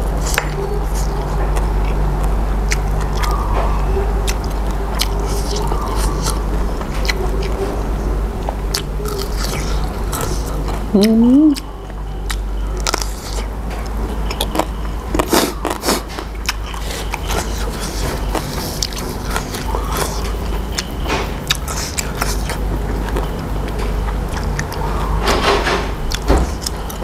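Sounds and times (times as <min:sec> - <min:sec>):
man chewing with wet smacks: 0:00.0 - 0:25.2, 0:25.9 - 0:27.0.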